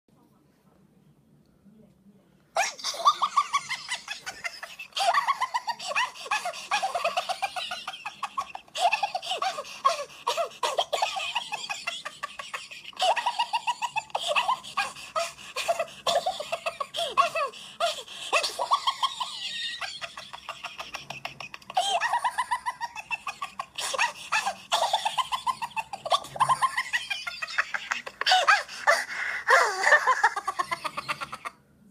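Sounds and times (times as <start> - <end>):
high-pitched cartoon voices laughing: 2.6 - 31.6.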